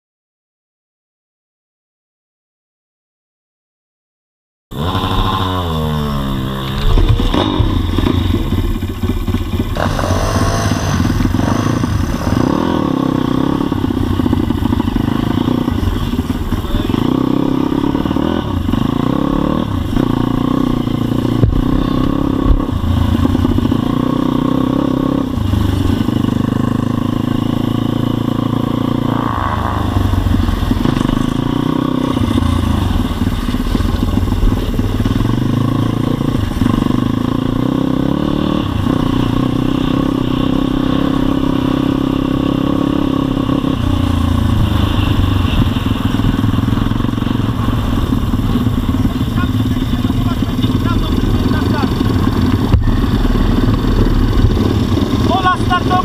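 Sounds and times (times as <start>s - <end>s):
motorbike engine revving: 4.7s - 56.0s.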